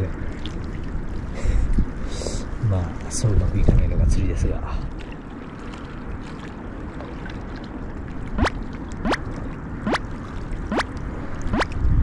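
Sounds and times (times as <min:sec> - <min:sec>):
water lapping on rocky shore: 0:00.0 - 0:12.0.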